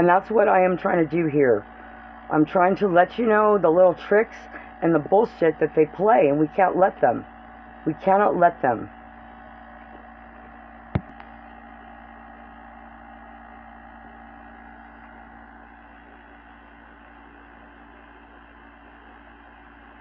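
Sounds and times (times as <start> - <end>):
electrical hum with held tones: 0.0 - 20.0.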